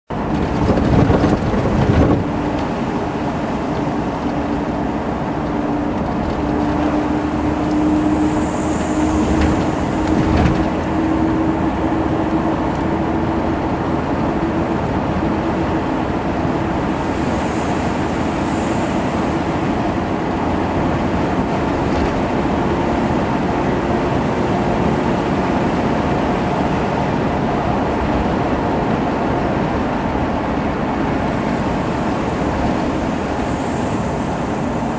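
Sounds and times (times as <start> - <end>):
car engine hum and road noise: 0.1 - 34.9.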